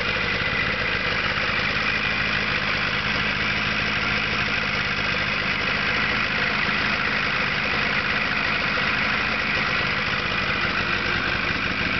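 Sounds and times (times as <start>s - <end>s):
snowmobile engine idling: 0.0s - 11.9s.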